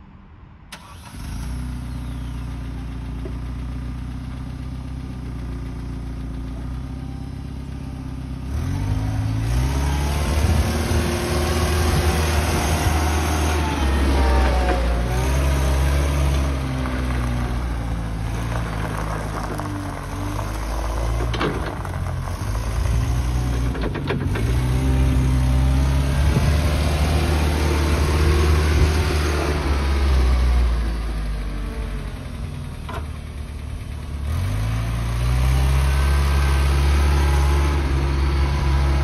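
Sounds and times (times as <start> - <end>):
forklift engine running and revving: 0.7 - 39.0.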